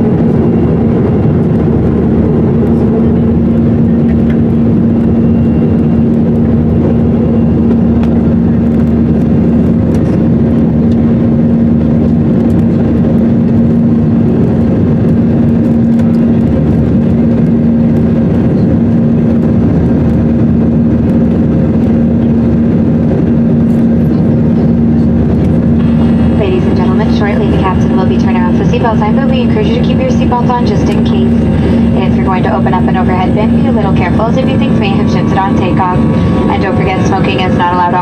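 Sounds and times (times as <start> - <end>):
jet cabin roar: 0.0 - 38.0
steady low hum: 0.0 - 38.0.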